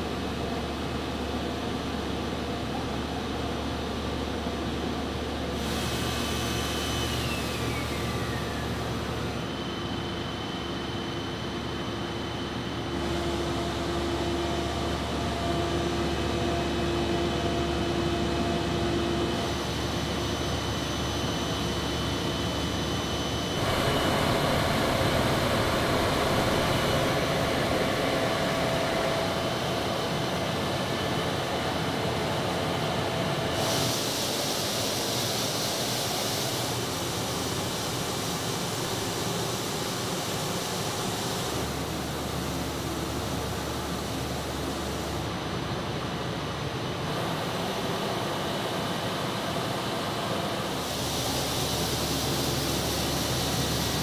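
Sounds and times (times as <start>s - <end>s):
machine hum and whir: 0.0s - 54.0s.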